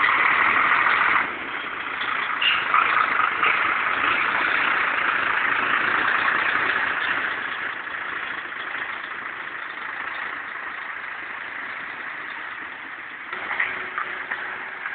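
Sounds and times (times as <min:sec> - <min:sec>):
heavy truck rolling past: 0:00.0 - 0:14.9.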